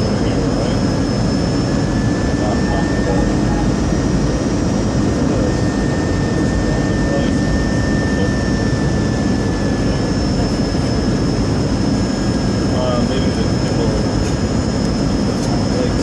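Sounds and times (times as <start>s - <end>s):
faint high whine: 0.0s - 16.0s
jet engines roaring: 0.0s - 16.0s.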